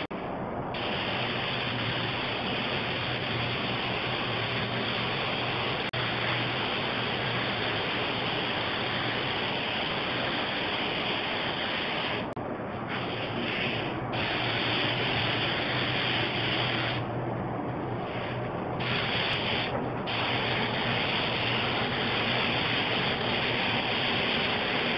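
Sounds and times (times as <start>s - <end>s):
spray gun hissing: 0.8s - 17.1s, 17.9s - 24.9s.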